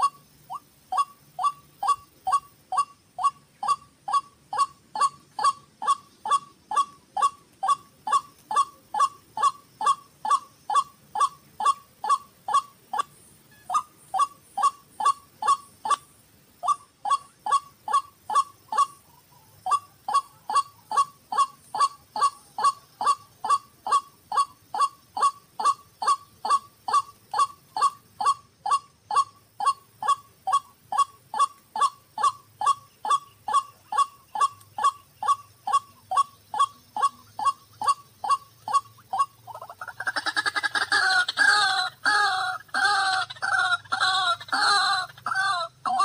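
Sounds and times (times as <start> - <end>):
waterhen calling: 0.0 - 46.0.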